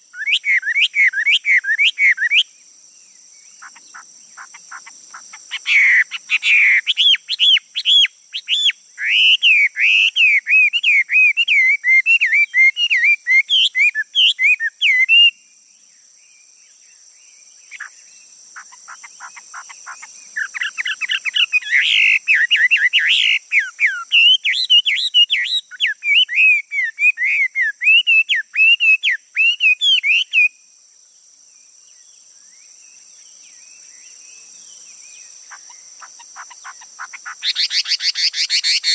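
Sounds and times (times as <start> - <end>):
songbird whistling song: 0.0 - 2.6, 3.4 - 15.4, 16.3 - 30.6, 31.9 - 38.9.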